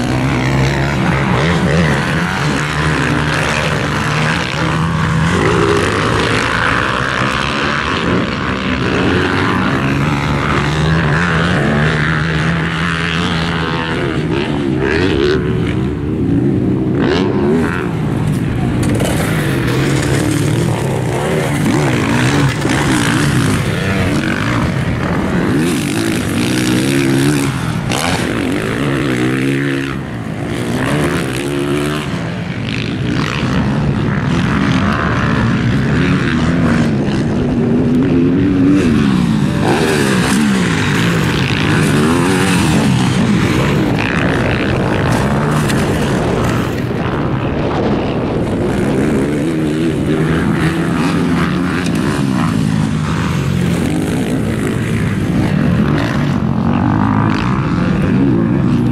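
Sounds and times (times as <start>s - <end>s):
dirt bike engines revving: 0.0s - 58.9s.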